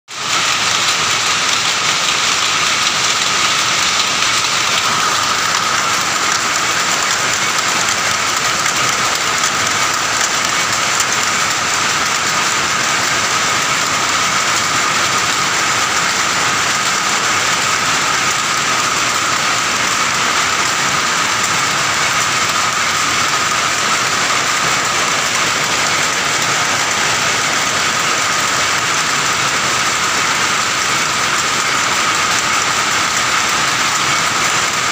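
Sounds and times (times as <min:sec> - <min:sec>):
power looms clattering: 0:00.1 - 0:34.9.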